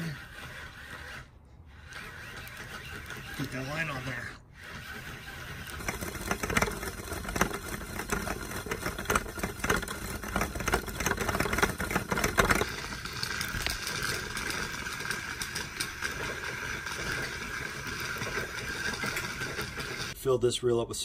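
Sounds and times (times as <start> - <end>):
fishing reel whirring and clicking: 0.0 - 20.2.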